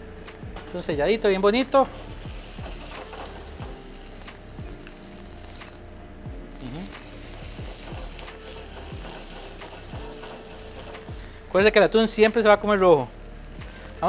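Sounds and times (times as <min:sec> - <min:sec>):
fish sizzling in a frying pan: 0:01.4 - 0:14.0.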